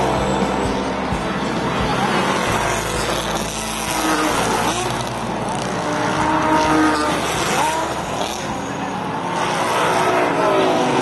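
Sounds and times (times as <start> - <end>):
racing car engines: 0.0 - 11.0
tyre and track noise: 0.0 - 11.0.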